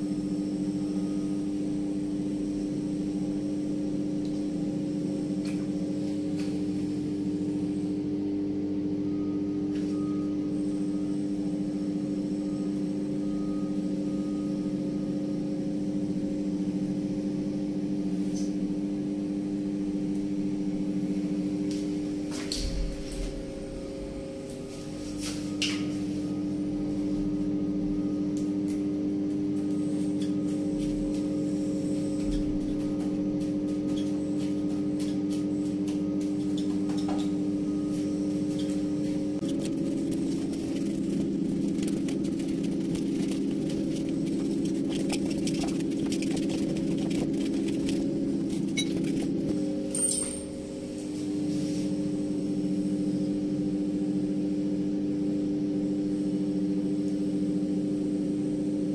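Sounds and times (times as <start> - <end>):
steady mechanical hum: 0.0 - 58.9.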